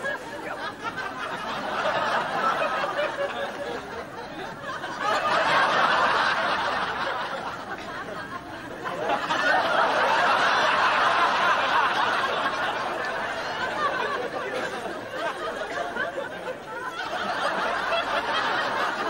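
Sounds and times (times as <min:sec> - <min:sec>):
studio audience laughing: 0:00.0 - 0:19.0.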